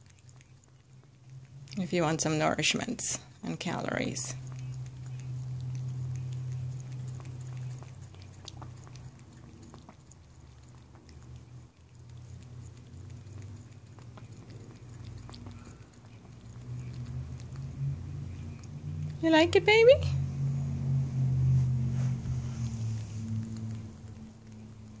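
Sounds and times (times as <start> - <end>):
cat lapping milk: 0.0 - 25.0
steady low rumble: 0.0 - 25.0.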